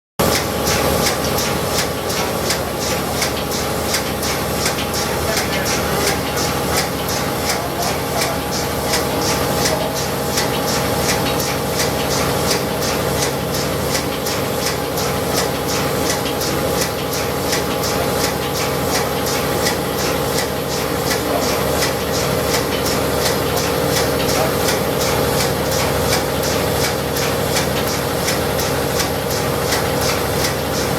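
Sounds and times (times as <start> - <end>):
machine ticking rhythmically: 0.2 - 30.9
mechanical hum: 0.2 - 30.9.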